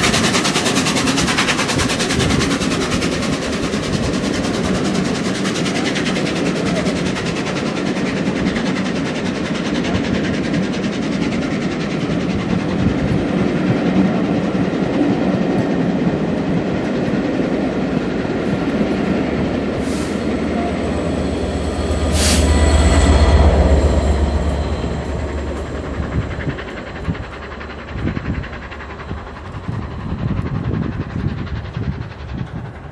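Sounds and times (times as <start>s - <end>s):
train rumbling past: 0.0s - 32.9s
wheels clacking on rails: 0.0s - 32.9s.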